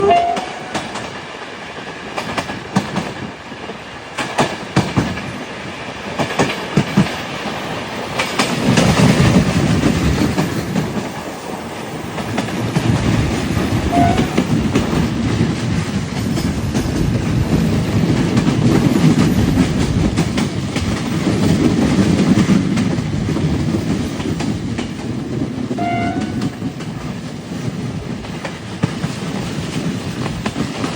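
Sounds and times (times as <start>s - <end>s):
train rolling rumble: 0.0s - 30.9s
train wheels clacking over rail joints: 0.2s - 30.9s.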